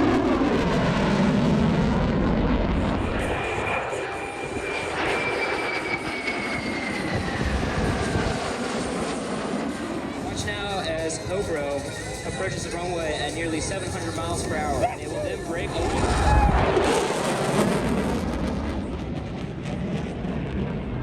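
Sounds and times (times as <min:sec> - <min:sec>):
jet aircraft roaring past: 0:00.0 - 0:21.0.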